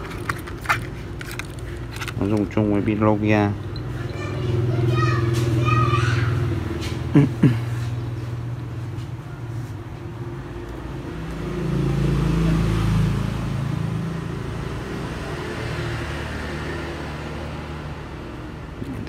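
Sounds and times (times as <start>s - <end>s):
passing road traffic hum: 0.0s - 19.0s.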